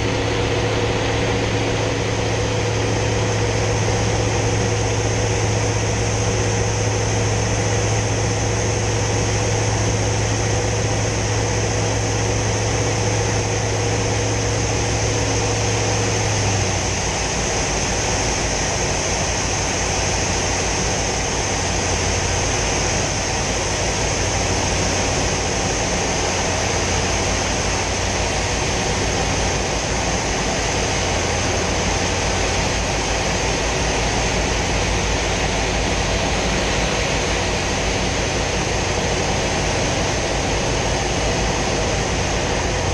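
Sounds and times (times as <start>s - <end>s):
aircraft engine drone: 0.0s - 42.9s.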